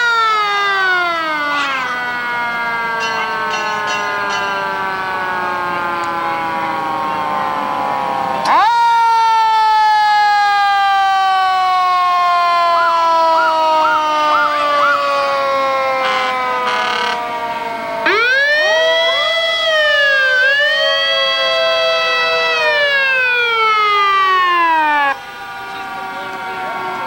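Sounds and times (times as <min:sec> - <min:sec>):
fire truck siren wailing: 0:00.0 - 0:27.0.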